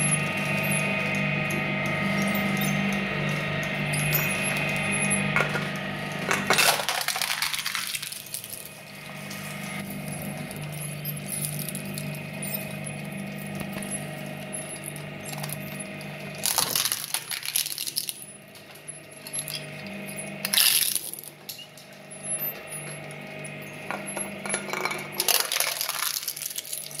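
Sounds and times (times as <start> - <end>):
shredder motor hum: 0.0 - 27.0.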